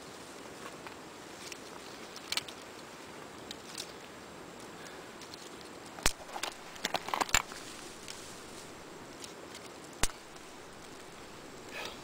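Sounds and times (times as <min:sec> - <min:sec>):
fire crackling and snapping: 0:00.4 - 0:12.0.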